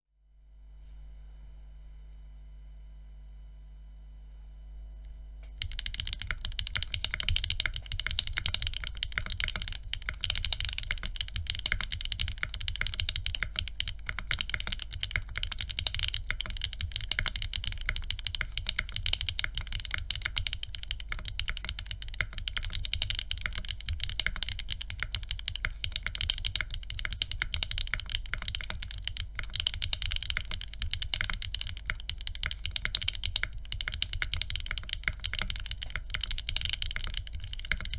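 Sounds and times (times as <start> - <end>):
fast typing on mechanical keyboard: 5.6 - 37.9.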